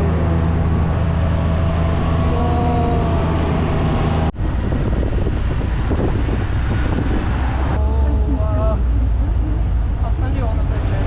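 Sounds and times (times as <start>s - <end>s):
utv engine droning: 0.0s - 11.0s.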